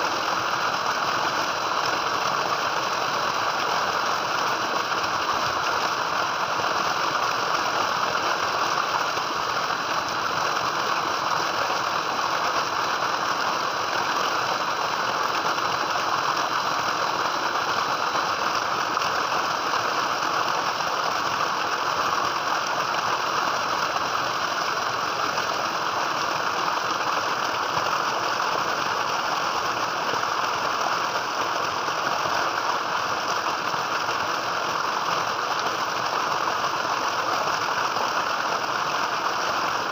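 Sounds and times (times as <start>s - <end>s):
water gushing into a tank: 0.0s - 39.9s.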